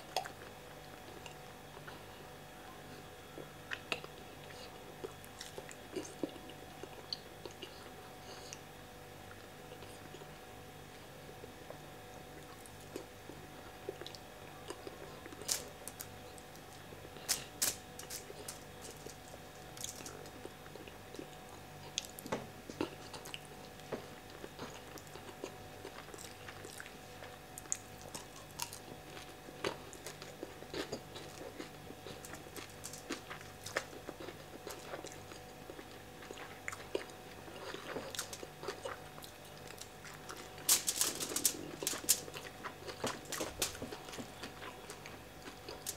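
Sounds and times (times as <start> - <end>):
person chewing and smacking: 0.0 - 2.1, 2.9 - 8.7, 11.4 - 45.9
faint steady hum: 0.0 - 45.9.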